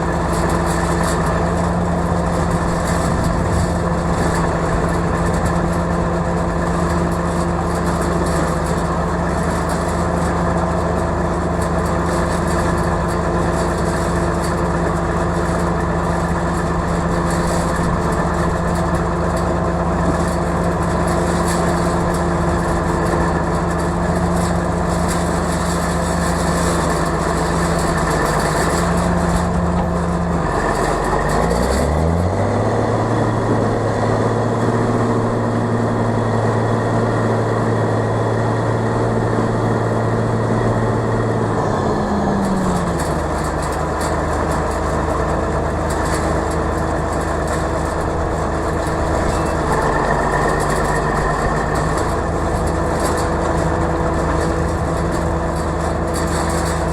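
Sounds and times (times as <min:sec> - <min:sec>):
tractor engine running and revving: 0:00.0 - 0:56.9.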